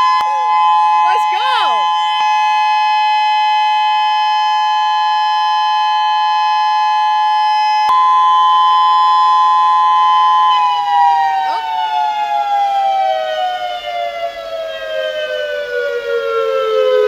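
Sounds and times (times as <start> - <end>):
tornado warning siren: 0.0 - 17.0.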